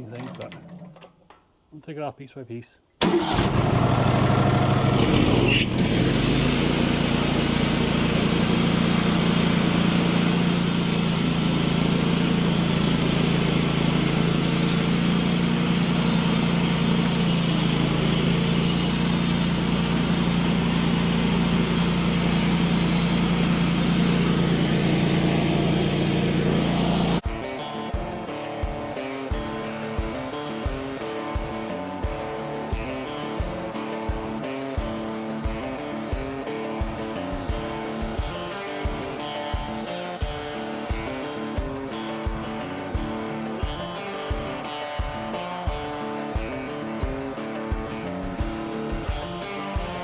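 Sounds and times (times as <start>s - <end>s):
band sawmill engine droning: 3.0s - 50.0s.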